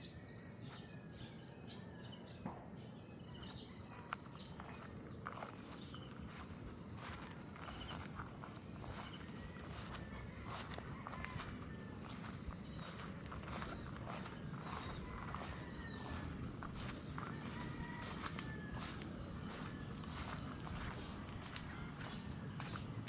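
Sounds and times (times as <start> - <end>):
insects trilling: 3.1 - 23.0.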